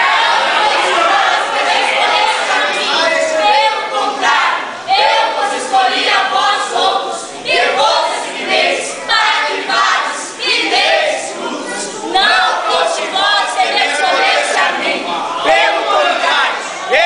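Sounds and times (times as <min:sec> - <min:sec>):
young voices singing in unison: 0:00.0 - 0:17.0.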